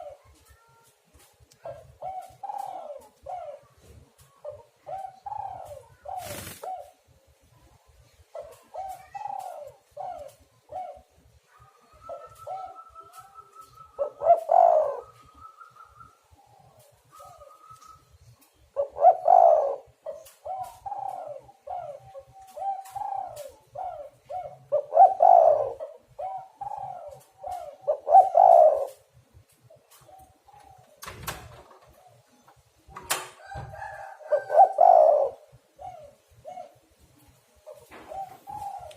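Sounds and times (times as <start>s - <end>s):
doves cooing: 1.6s - 7.4s, 8.1s - 29.2s, 29.8s - 37.0s, 37.6s - 38.9s.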